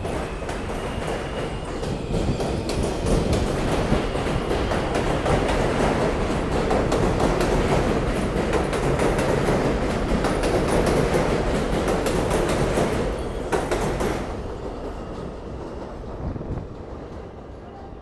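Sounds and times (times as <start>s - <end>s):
elevated train passing: 0.0s - 18.0s.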